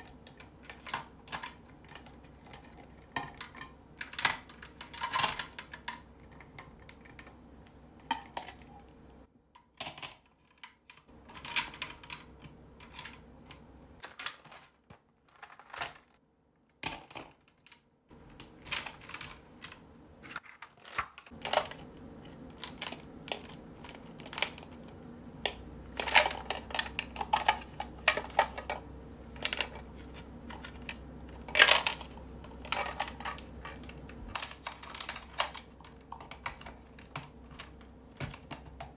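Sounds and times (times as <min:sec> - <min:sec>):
glue sticks clattering into plastic: 0:00.0 - 0:07.4, 0:09.6 - 0:16.1, 0:16.7 - 0:38.9.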